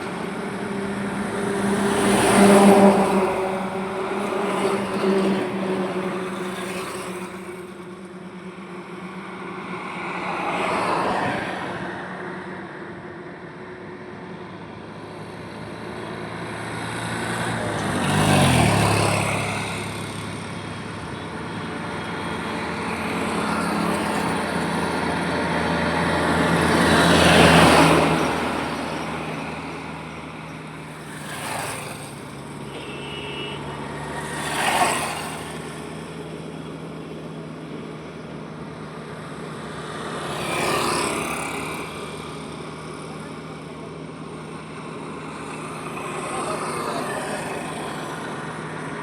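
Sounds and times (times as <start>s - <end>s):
vehicles passing: 0.0s - 49.0s.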